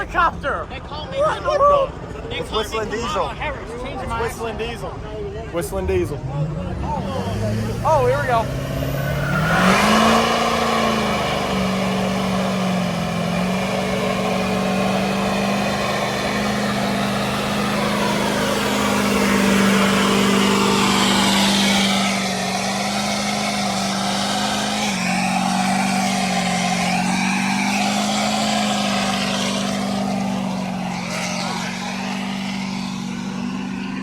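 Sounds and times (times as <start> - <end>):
truck engine at high revs: 1.9 - 34.0.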